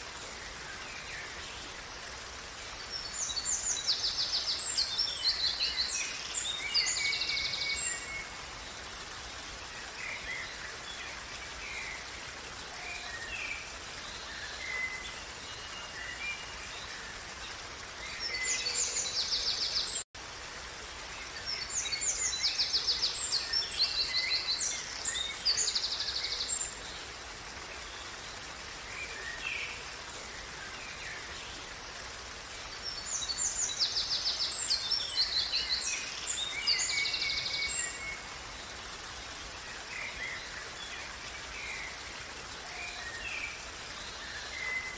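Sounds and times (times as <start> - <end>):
stream rushing: 0.0 - 44.9.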